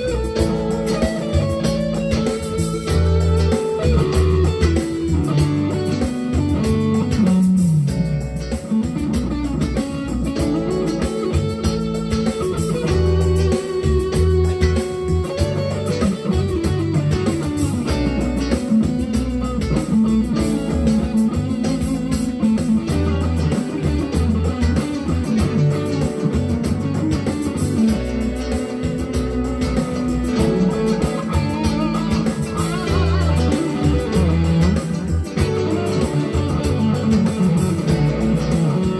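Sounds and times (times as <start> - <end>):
electric guitar single notes: 0.0 - 38.9.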